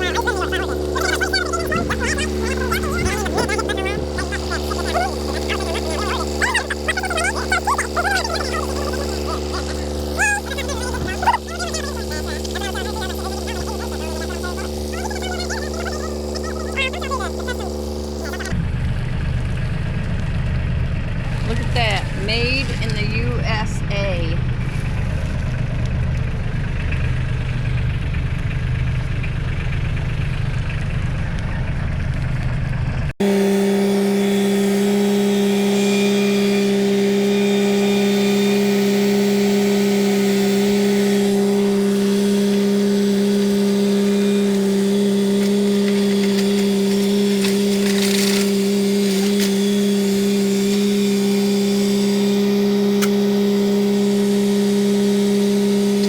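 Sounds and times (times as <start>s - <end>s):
engine idling: 0.0s - 56.0s
steady engine drone: 0.0s - 56.0s.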